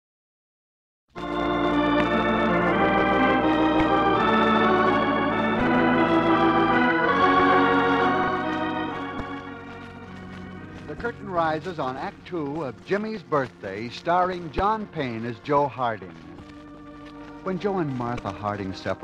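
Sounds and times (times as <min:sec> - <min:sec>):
instrumental music sustained chords: 0:01.2 - 0:19.0.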